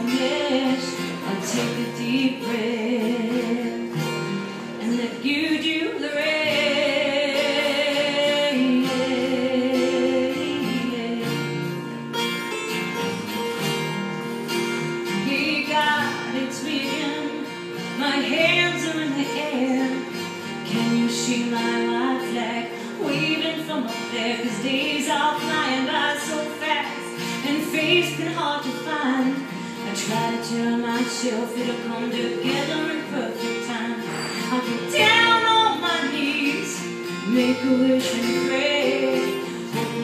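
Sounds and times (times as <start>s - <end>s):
woman singing: 0.0s - 12.1s, 15.0s - 40.0s
acoustic guitars playing: 0.0s - 40.0s.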